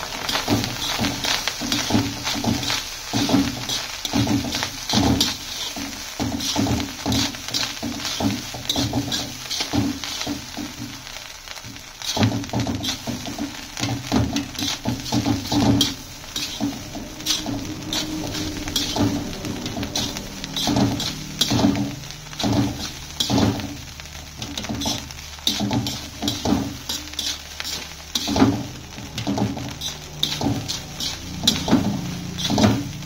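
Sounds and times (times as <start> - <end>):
food sizzling in wok: 0.0 - 33.0
metal spatula scraping wok: 0.0 - 33.0.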